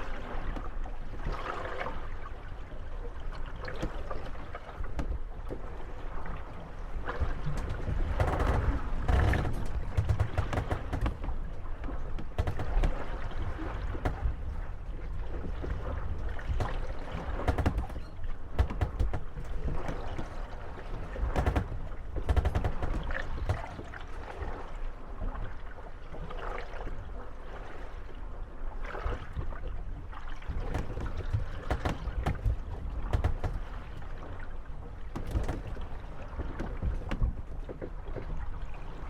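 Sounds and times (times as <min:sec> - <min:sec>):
wind and water rumble: 0:00.0 - 0:39.0
wooden boats creaking: 0:03.2 - 0:26.4, 0:29.0 - 0:39.0.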